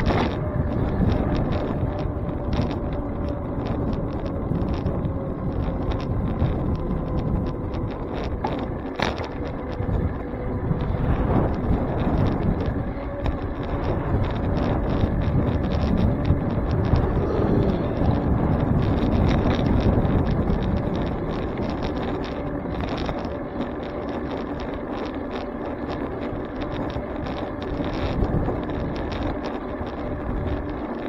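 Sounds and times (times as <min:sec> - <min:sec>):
bike clicks and rattles: 0:00.0 - 0:31.0
tyres rumbling on pavement: 0:00.0 - 0:31.0
wind buffeting microphone: 0:00.0 - 0:31.0.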